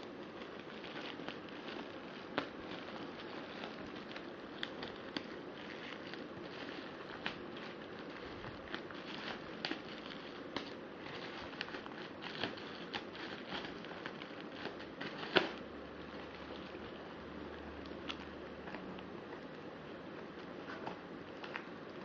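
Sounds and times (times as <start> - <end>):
packaging clicks and crinkles: 0.0 - 17.0, 17.8 - 19.6.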